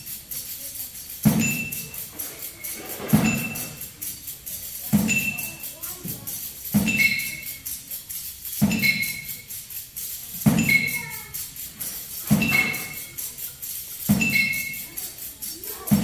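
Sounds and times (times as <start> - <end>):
fast high tapping: 0.0 - 16.0.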